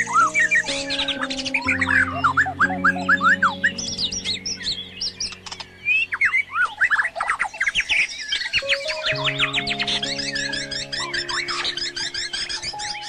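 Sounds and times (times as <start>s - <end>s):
music with low held notes: 0.0s - 7.0s, 8.6s - 13.0s
birds chirping and twittering: 0.0s - 13.0s.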